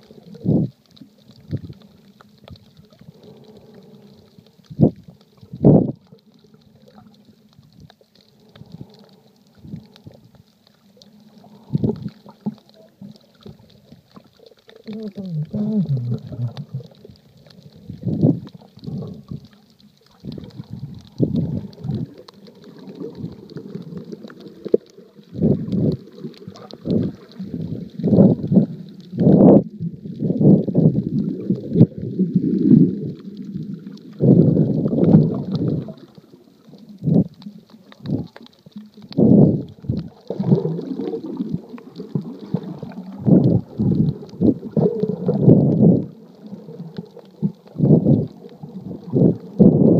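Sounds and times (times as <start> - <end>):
faint steady hiss: 0.0 - 49.9
underwater rumbling and gurgling: 0.0 - 49.9.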